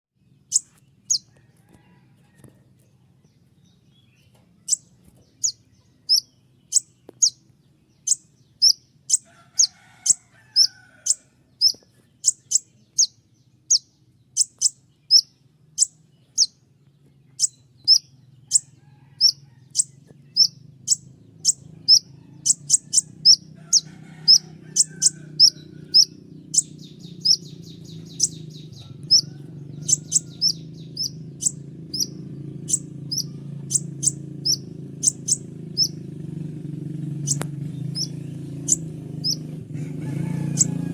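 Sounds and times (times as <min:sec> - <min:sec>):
bird high sharp chirps: 0:00.5 - 0:01.3, 0:04.6 - 0:07.4, 0:08.0 - 0:16.6, 0:17.4 - 0:36.1, 0:37.2 - 0:40.9.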